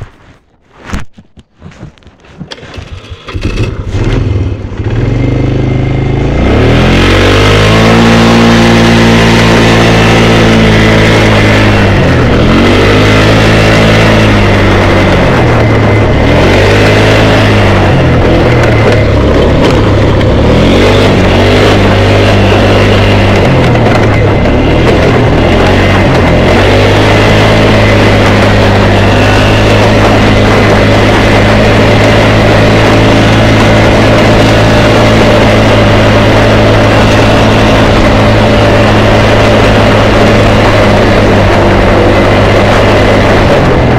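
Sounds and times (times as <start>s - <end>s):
atv engine revving: 2.5s - 43.9s.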